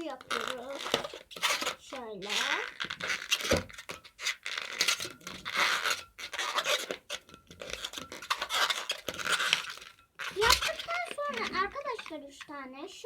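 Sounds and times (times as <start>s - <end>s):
balloon rubbing and squeaking: 0.0s - 12.6s.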